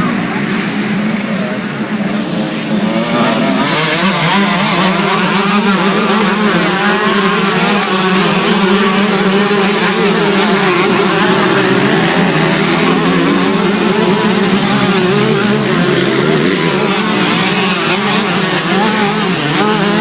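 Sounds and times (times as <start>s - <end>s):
motocross motorcycle engines: 0.0s - 20.0s.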